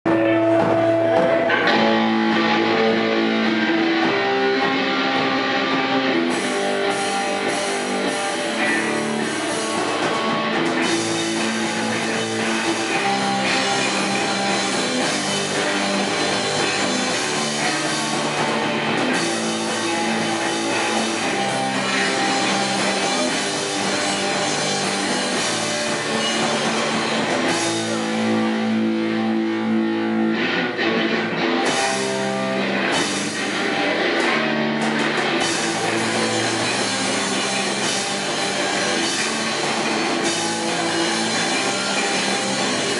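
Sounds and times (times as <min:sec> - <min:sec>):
bass guitar: 0:00.0 - 0:42.9
distorted electric guitar: 0:00.0 - 0:42.9
drums and cymbals: 0:00.1 - 0:29.8, 0:31.6 - 0:42.9.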